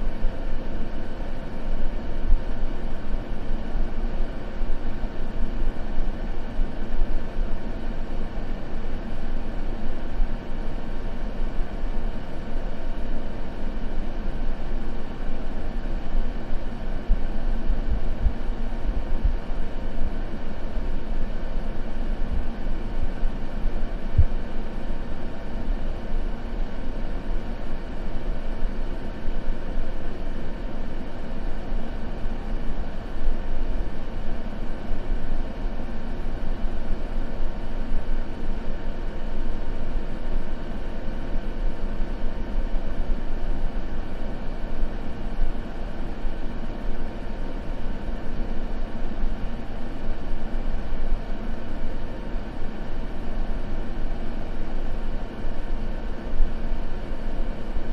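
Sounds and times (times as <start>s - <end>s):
deep muffled steady noise: 0.0s - 57.9s.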